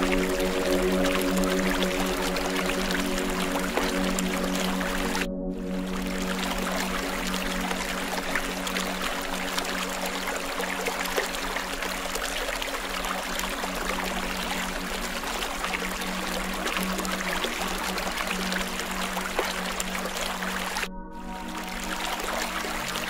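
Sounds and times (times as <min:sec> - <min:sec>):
low sustained drone: 0:00.0 - 0:23.0
water-like rushing noise: 0:00.0 - 0:23.0.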